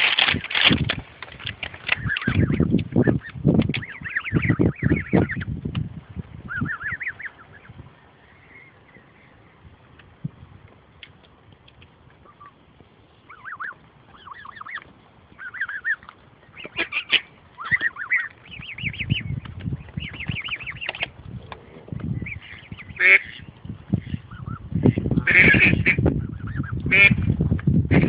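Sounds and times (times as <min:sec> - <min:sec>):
low rumbles: 0:00.0 - 0:28.0
goslings peeping: 0:01.5 - 0:05.7, 0:06.3 - 0:10.0, 0:12.1 - 0:27.3.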